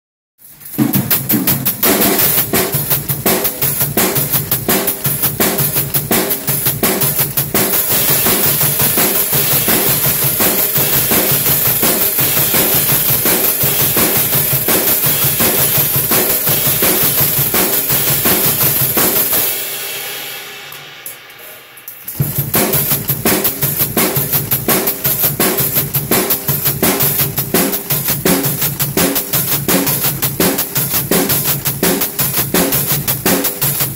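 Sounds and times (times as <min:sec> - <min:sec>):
drum beat with bass drum: 0:00.4 - 0:33.9
fast hi-hat strokes: 0:00.4 - 0:33.9.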